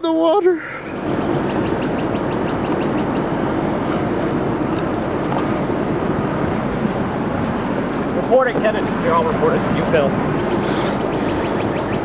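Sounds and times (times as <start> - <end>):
vehicle noise with low hum: 0.0 - 12.0
rushing wind: 0.1 - 12.0.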